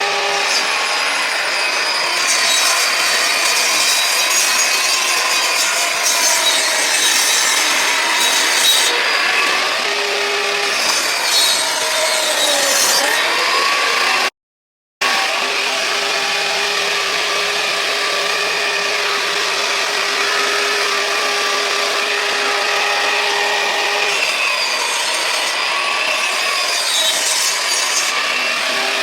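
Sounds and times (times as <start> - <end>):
saw cutting through wood: 0.0 - 14.4, 15.0 - 29.0.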